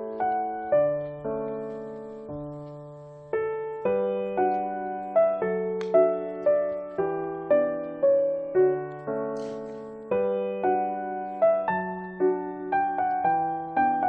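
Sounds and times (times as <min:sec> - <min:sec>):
slow gentle solo piano: 0:00.0 - 0:14.0.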